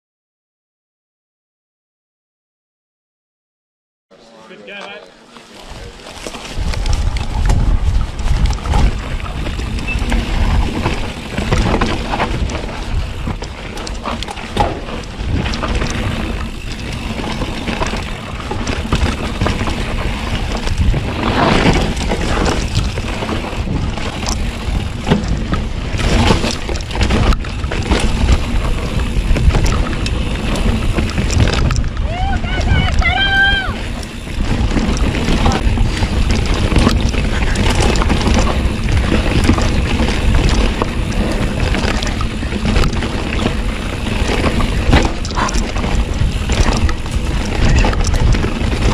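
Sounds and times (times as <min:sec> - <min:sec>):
bike tyres rolling on dirt: 0:04.2 - 0:48.9
wind buffeting microphone: 0:05.8 - 0:48.9
bike knocks and rattles: 0:06.1 - 0:33.1, 0:33.7 - 0:48.9.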